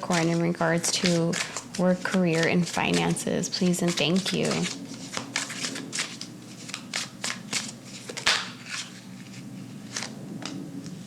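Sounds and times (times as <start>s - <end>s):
cards being shuffled by hand: 0.0s - 11.0s.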